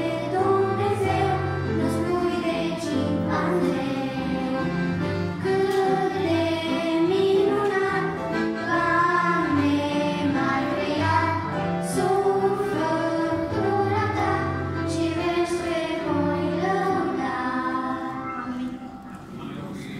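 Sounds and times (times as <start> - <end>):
children singing into microphones: 0.0 - 19.9.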